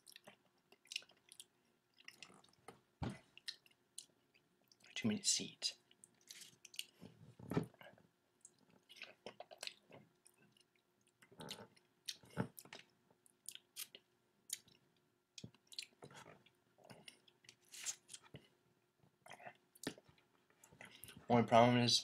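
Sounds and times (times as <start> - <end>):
wet chewing and mouth smacks: 0.0 - 5.0, 5.8 - 7.1, 8.4 - 18.5, 19.2 - 21.2.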